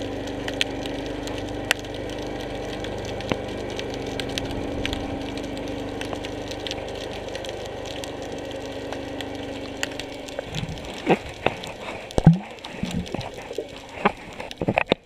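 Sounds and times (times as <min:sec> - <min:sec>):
motor hum: 0:00.0 - 0:15.0
water sounds: 0:00.0 - 0:15.0.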